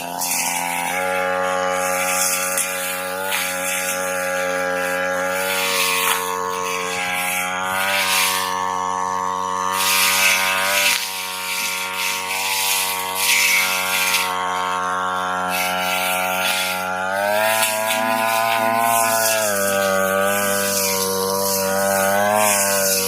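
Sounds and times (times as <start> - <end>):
blade swishing through grass: 0.0 - 8.8, 9.6 - 23.0
brush cutter engine running: 0.0 - 23.0.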